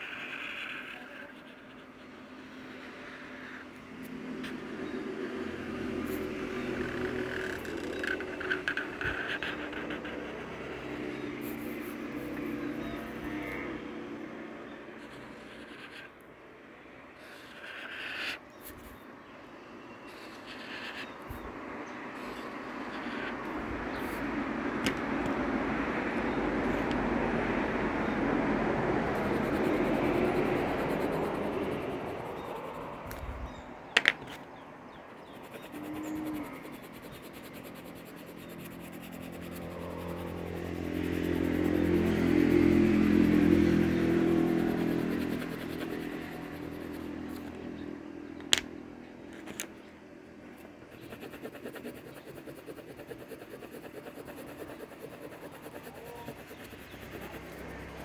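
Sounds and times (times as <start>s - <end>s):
passing motor traffic: 0.0s - 58.0s.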